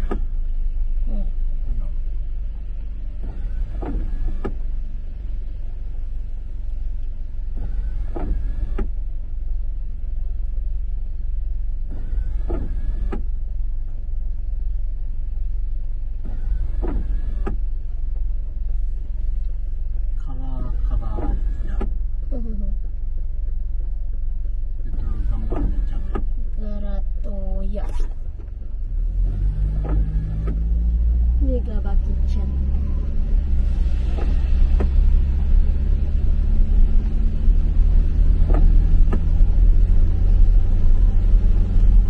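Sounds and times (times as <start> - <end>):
car cabin hum at idle: 0.0 - 42.0
windshield wiper whine: 0.0 - 42.0.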